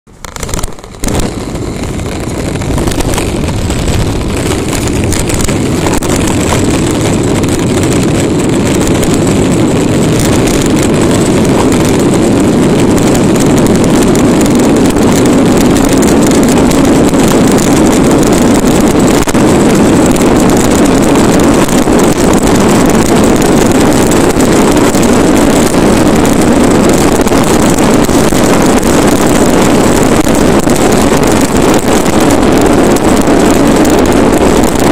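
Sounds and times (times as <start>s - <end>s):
plastic toy wheels rolling on asphalt: 0.1s - 34.9s.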